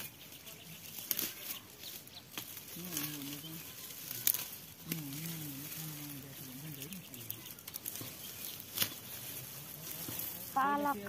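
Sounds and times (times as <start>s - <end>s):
dry plant stalks rustling: 0.0s - 11.0s
stalks snapping: 0.9s - 10.4s.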